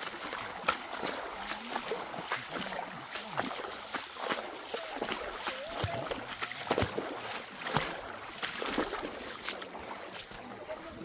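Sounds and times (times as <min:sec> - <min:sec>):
footsteps squelching in mud: 0:00.0 - 0:11.0.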